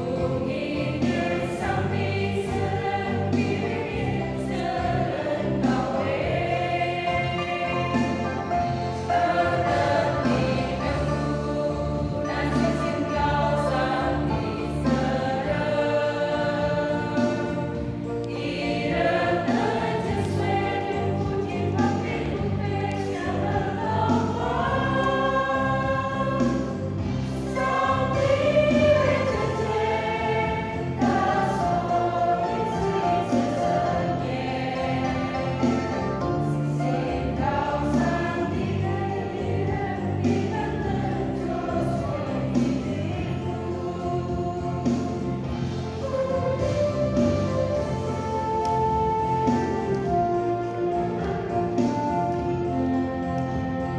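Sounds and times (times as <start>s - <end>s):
mixed choir singing a hymn: 0.0s - 53.9s.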